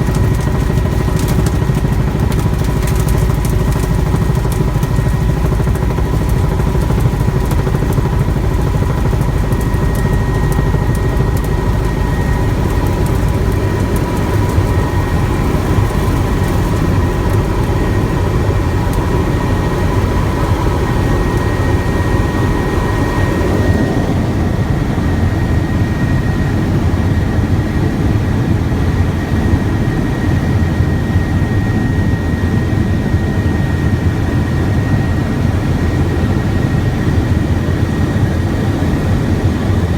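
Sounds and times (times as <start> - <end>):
helicopter rotor rumble: 0.0 - 39.9
high turbine whine: 0.0 - 39.9.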